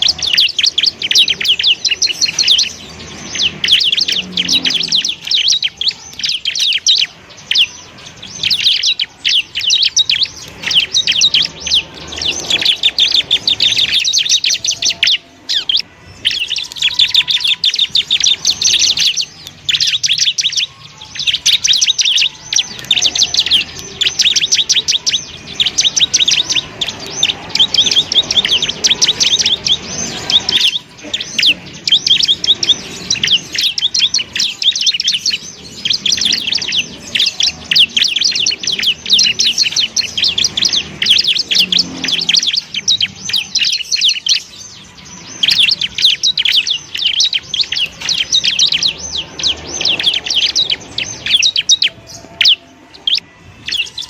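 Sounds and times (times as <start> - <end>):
bird singing chattering trill: 0.0 - 54.0.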